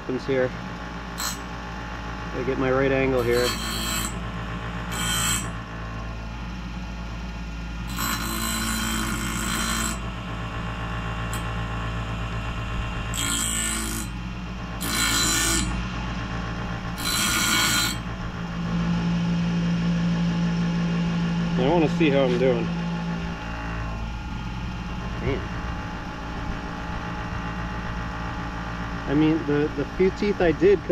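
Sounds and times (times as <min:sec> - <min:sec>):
bench grinder motor humming: 0:00.6 - 0:30.9.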